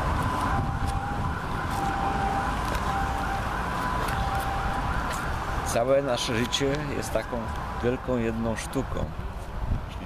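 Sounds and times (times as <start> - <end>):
two-tone emergency siren: 0.0 - 9.1
street traffic noise: 0.0 - 10.0.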